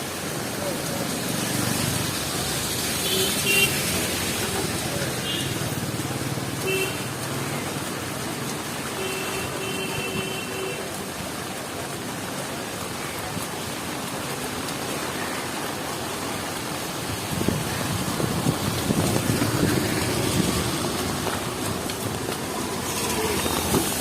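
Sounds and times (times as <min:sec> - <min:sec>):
heavy rain on street: 0:00.0 - 0:24.0
traffic: 0:00.0 - 0:24.0.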